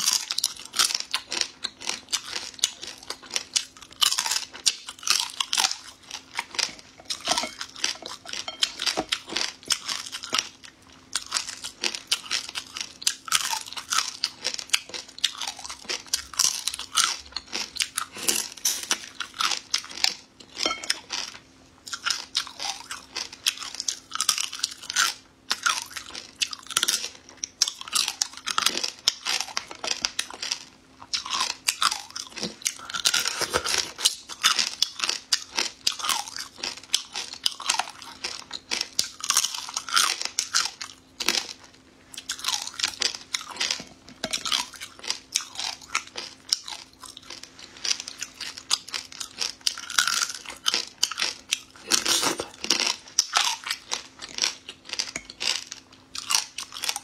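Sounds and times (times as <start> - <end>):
crunching and chewing shrimp: 0.0 - 57.0
faint steady hum: 0.0 - 57.0.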